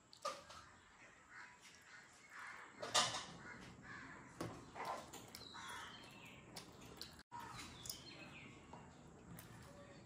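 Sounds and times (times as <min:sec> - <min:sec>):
birds chirping: 0:00.3 - 0:10.0.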